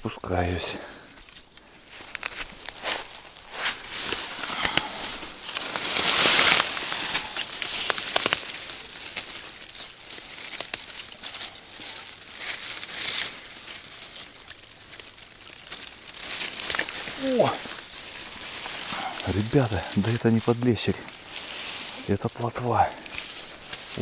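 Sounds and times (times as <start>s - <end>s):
rustling and crackling footsteps: 0.8s - 24.0s.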